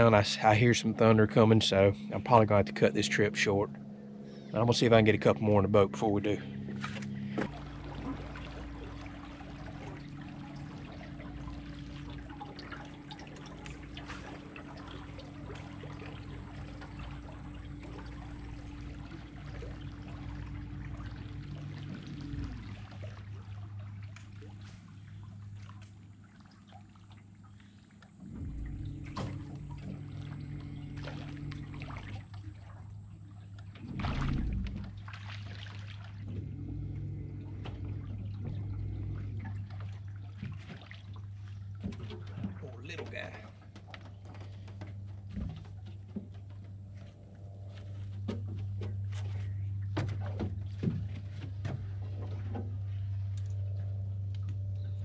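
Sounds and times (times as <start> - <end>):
water lapping against hull: 0.0 - 55.0.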